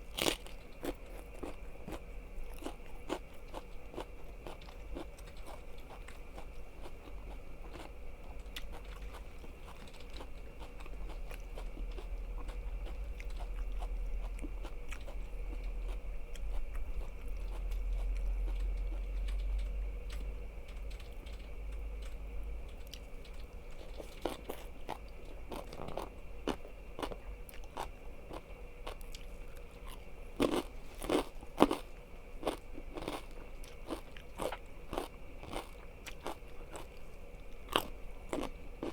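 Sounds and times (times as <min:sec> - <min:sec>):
chewing with crunching: 0:00.0 - 0:38.9.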